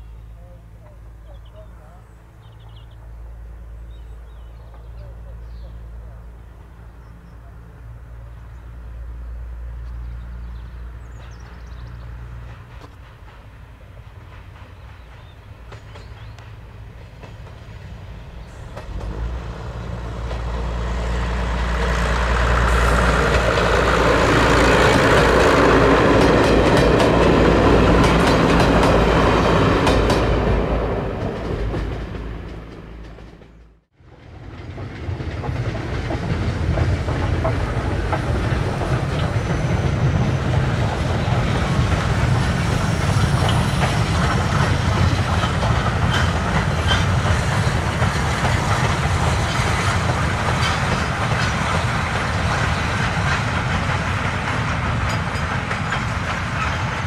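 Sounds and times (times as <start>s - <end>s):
train rumble: 0.0s - 57.0s
train wheels clattering on rails: 9.8s - 57.0s.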